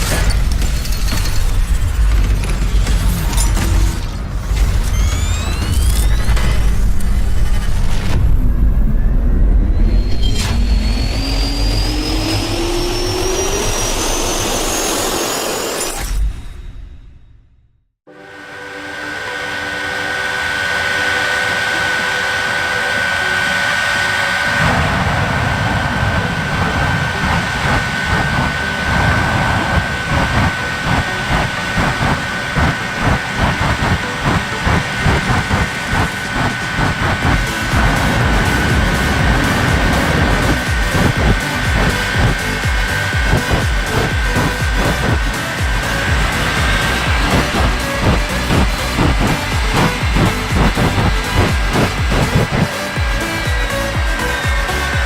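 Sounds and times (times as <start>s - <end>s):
jet engine roaring with whine: 0.0s - 16.3s, 18.1s - 55.0s.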